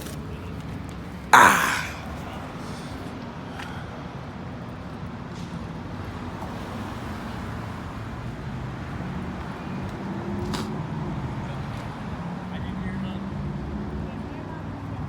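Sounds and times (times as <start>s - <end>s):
car engine and road noise: 2.1s - 14.9s.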